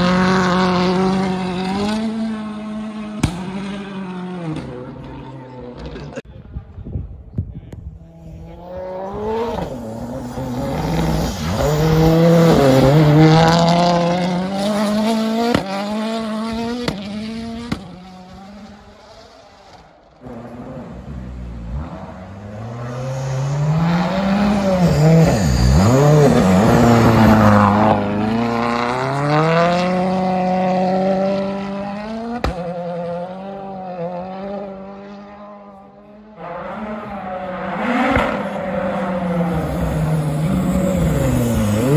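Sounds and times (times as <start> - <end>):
rally car engine at full throttle: 0.0 - 41.9.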